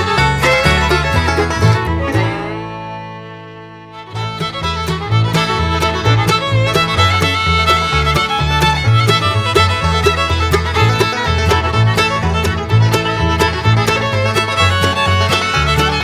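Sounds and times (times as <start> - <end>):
banjo: 0.0 - 16.0
bluegrass music: 0.0 - 16.0
fiddle: 0.0 - 16.0
guitar: 0.0 - 16.0
walking bass line: 0.0 - 16.0.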